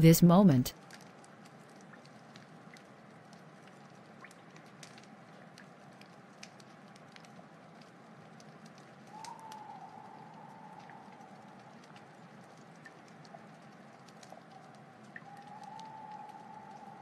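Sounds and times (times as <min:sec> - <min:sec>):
low steady hiss: 0:00.0 - 0:17.0
soft clicks and crackles: 0:00.7 - 0:17.0.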